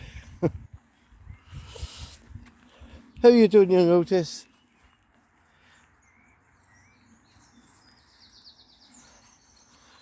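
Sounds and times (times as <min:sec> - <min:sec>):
faint distant birdsong: 0:00.0 - 0:10.0.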